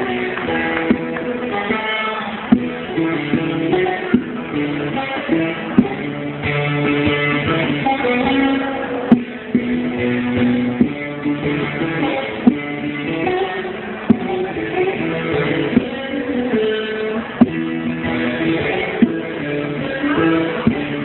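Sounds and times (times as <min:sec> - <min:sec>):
plucked string instrument melody: 0:00.0 - 0:21.0.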